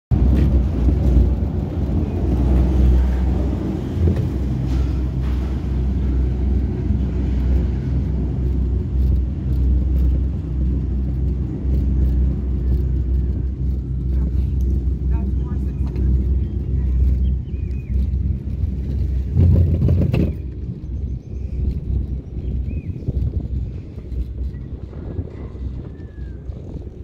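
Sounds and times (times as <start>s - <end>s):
cable car cabin rumble: 0.1s - 27.0s.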